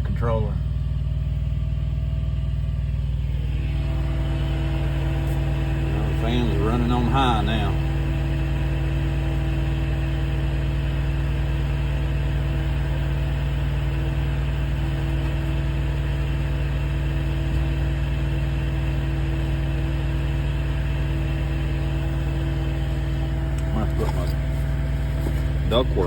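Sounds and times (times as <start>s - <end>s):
generator engine droning: 0.0s - 26.0s
heater blower fan running: 0.0s - 26.0s.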